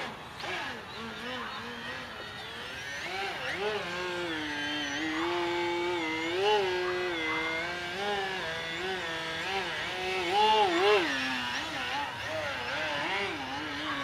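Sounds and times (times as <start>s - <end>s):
model plane electric motor whining: 0.0s - 14.0s.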